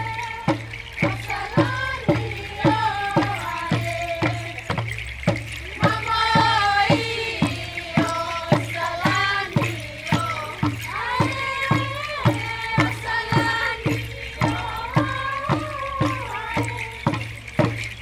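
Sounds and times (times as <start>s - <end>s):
steady drumbeat: 0.0s - 18.0s
voices singing: 0.0s - 18.0s.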